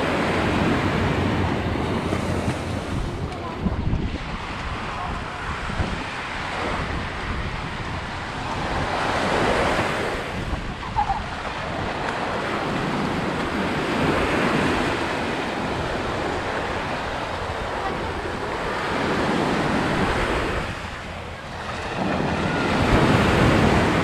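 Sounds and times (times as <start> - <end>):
small waves breaking on sand: 0.0 - 24.0
wind buffeting microphone: 0.0 - 24.0.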